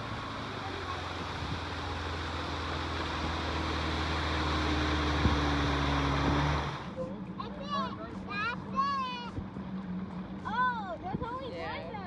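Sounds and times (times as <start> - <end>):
rushing water: 0.0 - 11.7
motorboat engine hum: 0.0 - 12.0.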